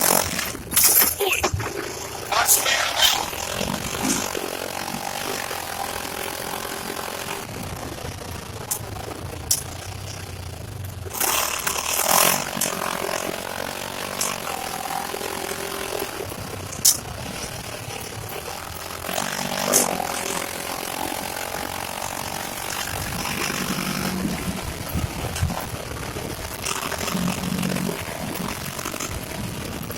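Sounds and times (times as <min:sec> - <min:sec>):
engine revving: 0:00.0 - 0:29.9.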